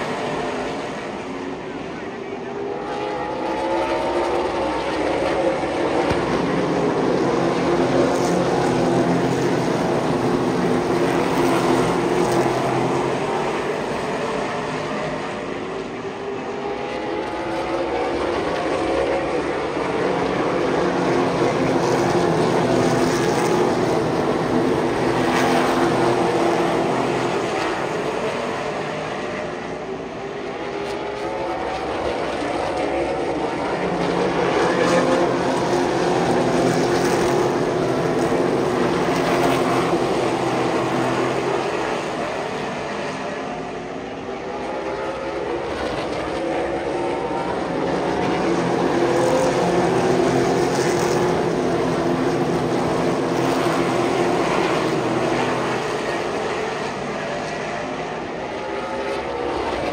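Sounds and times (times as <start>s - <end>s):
race car engines racing: 0.0s - 59.9s.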